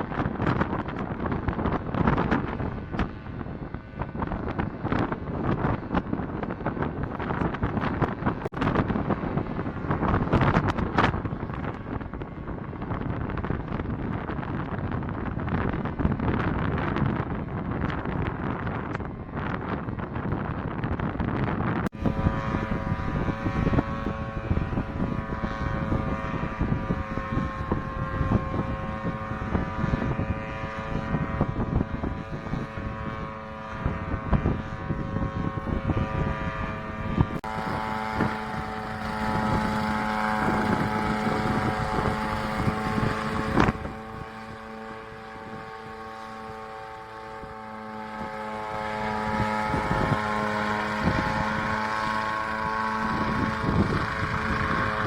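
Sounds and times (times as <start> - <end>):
helicopter engine and rotors whining: 0.0 - 55.0
wind buffeting microphone: 0.0 - 55.0.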